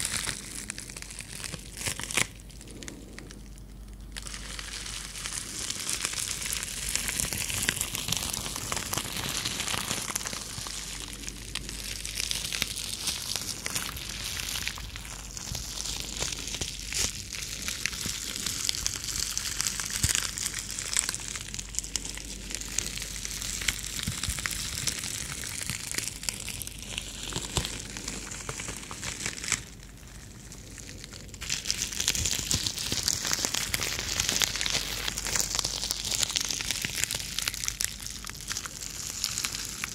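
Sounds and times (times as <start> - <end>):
bubble wrap crinkling and crackling: 0.0 - 39.9
nails scratching bubble wrap: 0.0 - 39.9.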